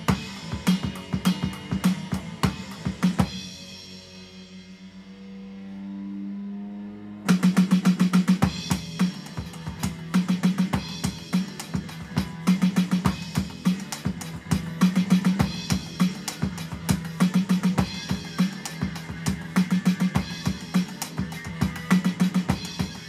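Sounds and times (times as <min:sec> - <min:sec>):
electronic drum kit fill: 0:00.0 - 0:06.1, 0:07.2 - 0:23.0
rock backing track: 0:00.0 - 0:23.0.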